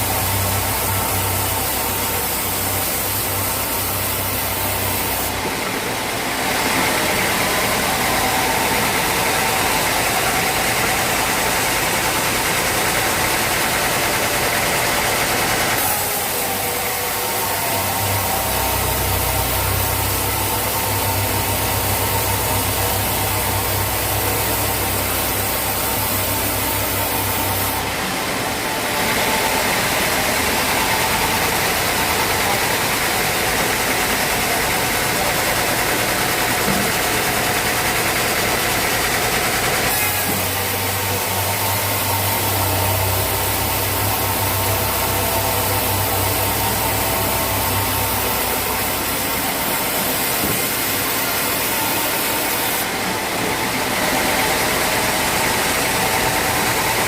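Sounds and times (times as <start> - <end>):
sawmill machinery drone: 0.0 - 57.0.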